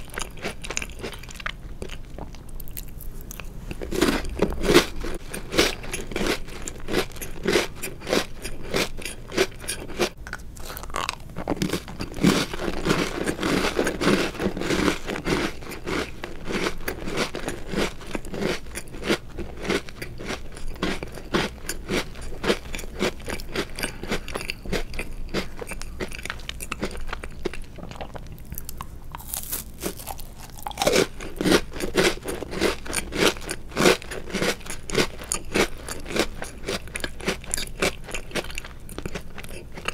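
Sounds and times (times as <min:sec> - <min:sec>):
chewing crunchy cookies: 0:00.0 - 0:39.9.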